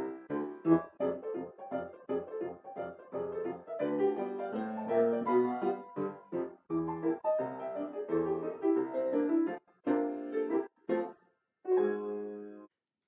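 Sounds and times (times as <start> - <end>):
ragtime piano: 0.0 - 12.7.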